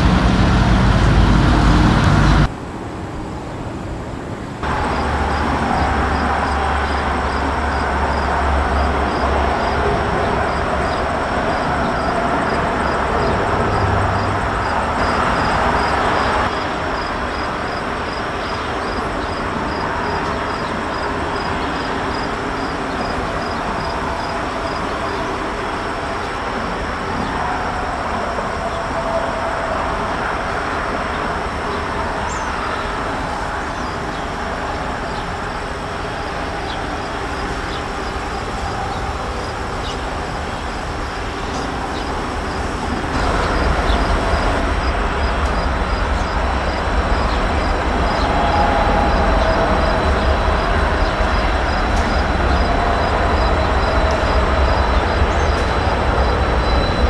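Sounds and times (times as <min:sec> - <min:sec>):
diesel locomotives running: 0:00.0 - 0:57.0
freight cars rolling on rails: 0:00.0 - 0:57.0.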